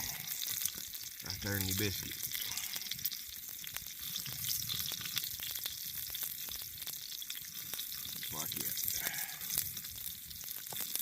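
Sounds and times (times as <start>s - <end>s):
bacon sizzling in a pan: 0.0s - 11.0s.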